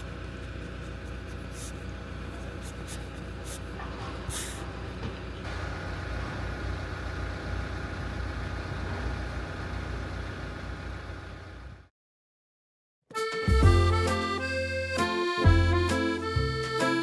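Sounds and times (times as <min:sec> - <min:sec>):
engine rumbling: 0:00.0 - 0:11.9, 0:13.4 - 0:17.0.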